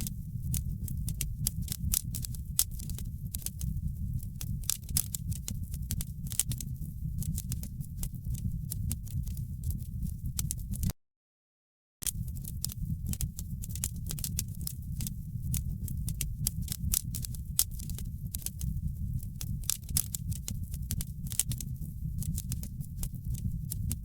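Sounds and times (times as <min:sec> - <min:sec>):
wood fire crackling: 0:00.0 - 0:10.9, 0:12.0 - 0:24.0.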